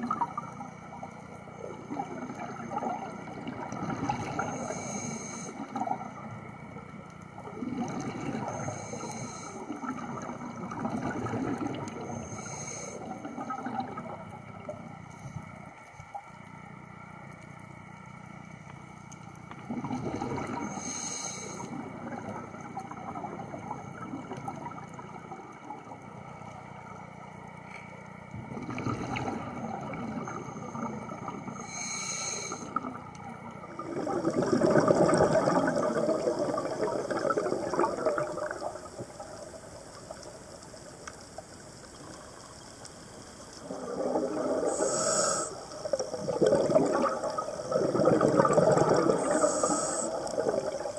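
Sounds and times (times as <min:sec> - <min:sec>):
exhaled air bubbling: 0:00.0 - 0:16.8, 0:19.4 - 0:27.4, 0:28.1 - 0:50.9
steady underwater wash: 0:00.0 - 0:50.9.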